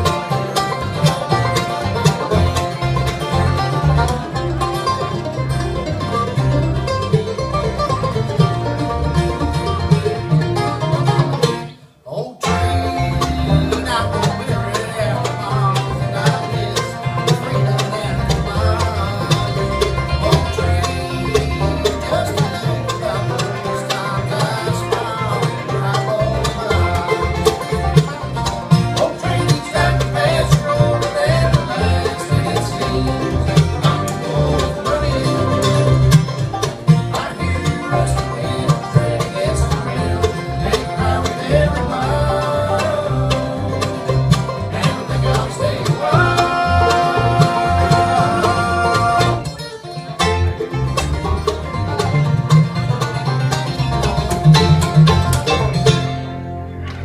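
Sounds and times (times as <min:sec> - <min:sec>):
bluegrass band playing: 0:00.0 - 0:57.0.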